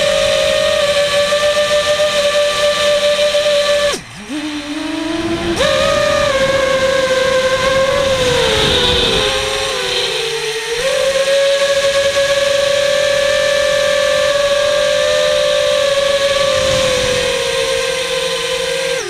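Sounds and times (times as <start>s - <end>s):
quadcopter motors whining: 0.0s - 19.0s
wind noise: 0.0s - 19.0s.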